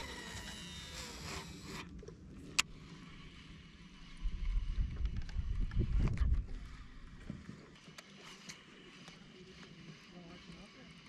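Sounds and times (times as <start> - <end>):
fishing reel spool whirring: 0.0 - 11.0.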